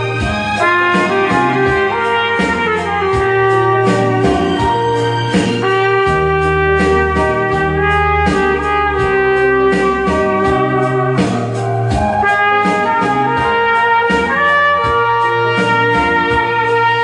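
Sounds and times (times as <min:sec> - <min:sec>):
bass line and steady beat: 0:00.0 - 0:17.0
trumpet melody: 0:00.0 - 0:17.0.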